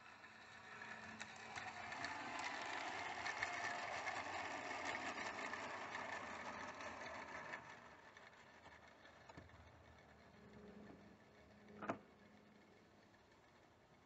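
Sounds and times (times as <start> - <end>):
model train motor whirring: 0.0 - 14.0
wheels clicking on track: 0.0 - 14.0.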